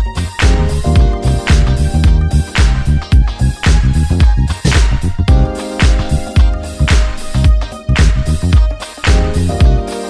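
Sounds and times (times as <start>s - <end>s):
upbeat music with heavy beat: 0.0s - 10.0s.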